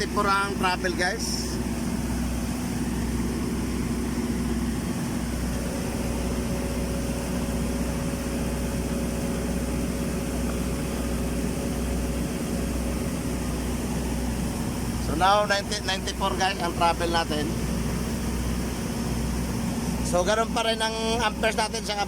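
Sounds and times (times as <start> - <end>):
welding machine hum: 0.0 - 21.8
faint held whine: 0.0 - 22.0.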